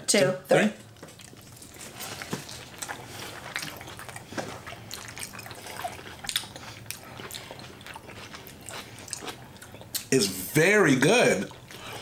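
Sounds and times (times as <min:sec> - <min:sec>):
people chewing food: 0:00.8 - 0:12.0.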